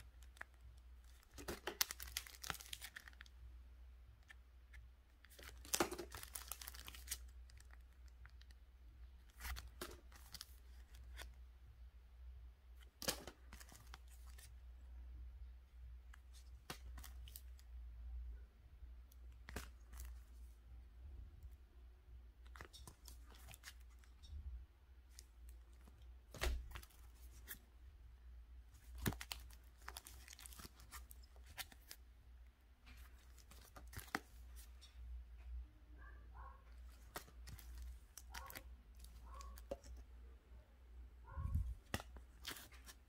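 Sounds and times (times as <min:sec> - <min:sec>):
plastic sleeves rustling and crinkling: 0:00.0 - 0:11.5, 0:12.8 - 0:14.8, 0:16.0 - 0:17.8, 0:19.0 - 0:20.6, 0:22.4 - 0:28.0, 0:28.6 - 0:35.5, 0:36.8 - 0:40.2, 0:41.2 - 0:43.0.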